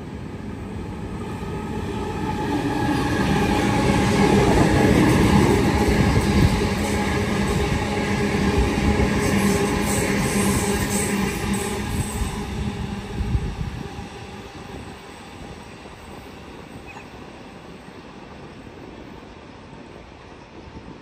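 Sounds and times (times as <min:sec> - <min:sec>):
train passing on tracks: 0:00.0 - 0:21.0.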